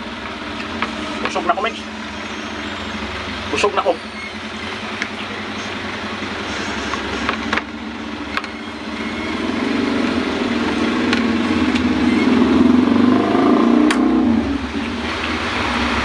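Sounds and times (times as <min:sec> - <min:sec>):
low engine-like rumble: 0:00.0 - 0:16.0.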